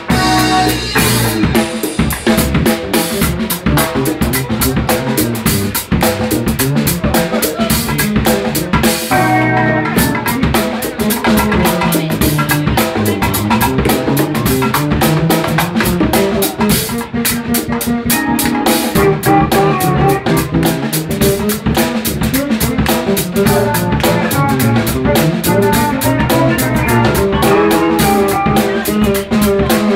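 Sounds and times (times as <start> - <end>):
funk band playing: 0.0 - 29.9
guitar-like bass lead: 0.0 - 29.9.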